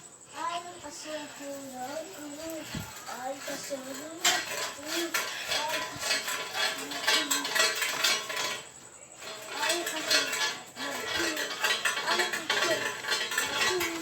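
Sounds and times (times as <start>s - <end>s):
metal clinking and rattling: 0.0s - 14.0s.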